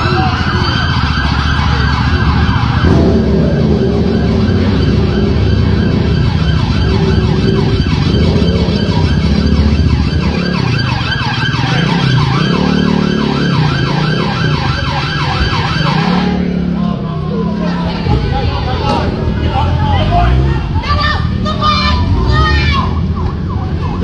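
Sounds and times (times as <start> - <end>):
police siren yelping: 0.0 - 19.3, 20.2 - 24.0
low traffic rumble: 0.0 - 24.0.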